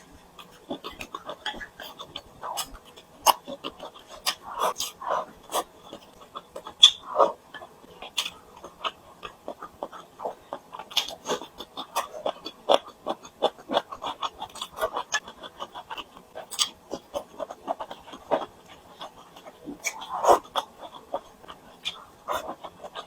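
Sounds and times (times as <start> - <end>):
chewing and mouth smacks: 0.0 - 23.0.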